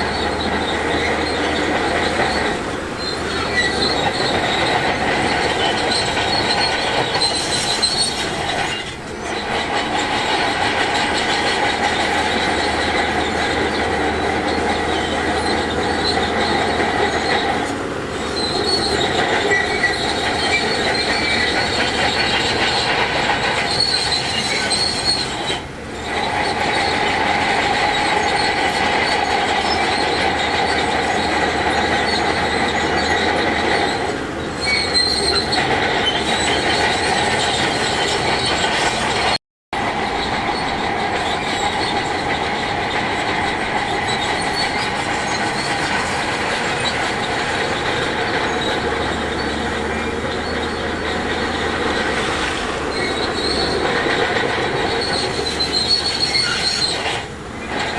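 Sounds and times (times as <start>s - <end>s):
bulldozer tracks squealing: 0.0s - 57.9s
diesel engine: 0.0s - 57.9s.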